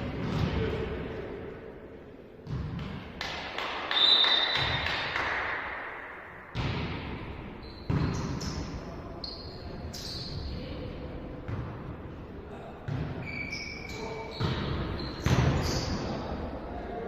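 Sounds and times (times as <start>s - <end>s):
volleyball hits echoing in hall: 0.0s - 16.9s.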